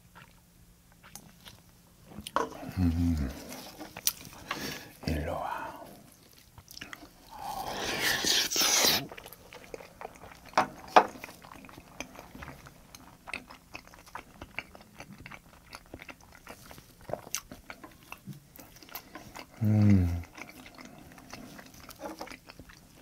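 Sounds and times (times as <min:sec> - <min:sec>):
close wet chewing: 0:00.1 - 0:05.2, 0:05.8 - 0:23.0.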